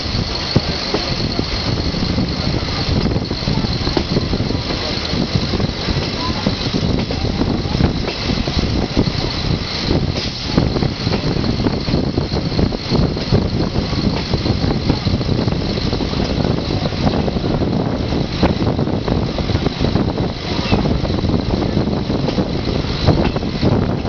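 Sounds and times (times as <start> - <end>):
railcar engine and wheels rumbling: 0.0 - 24.0.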